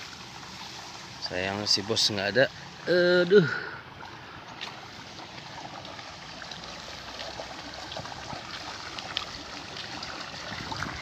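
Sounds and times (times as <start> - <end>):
water trickling over a weir: 0.0 - 11.0.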